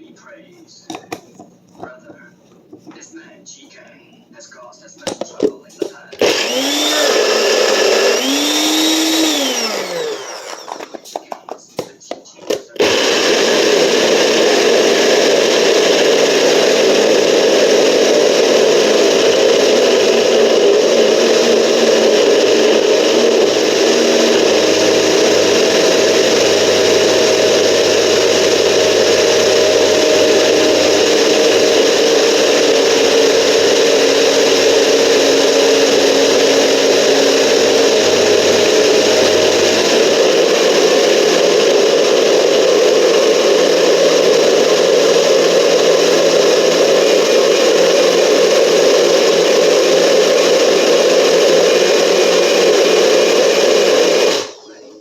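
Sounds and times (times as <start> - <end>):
blender running: 6.2 - 11.3, 12.7 - 54.6.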